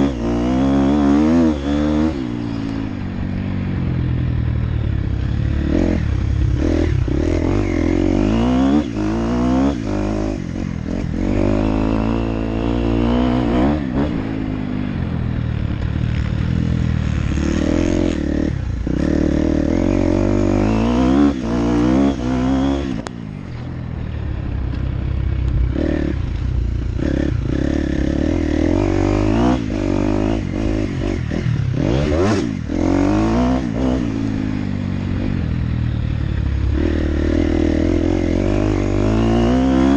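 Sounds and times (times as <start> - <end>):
dirt bike engine revving: 0.0 - 3.4, 4.4 - 23.7, 24.4 - 39.9.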